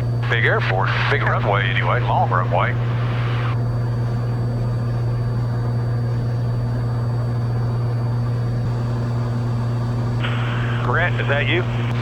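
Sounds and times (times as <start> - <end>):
aircraft engine droning in cabin: 0.0 - 12.0.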